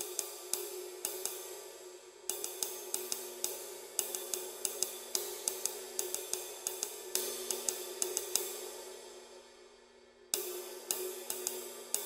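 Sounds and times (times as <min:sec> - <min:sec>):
ride cymbal played with drumsticks: 0:00.0 - 0:12.0.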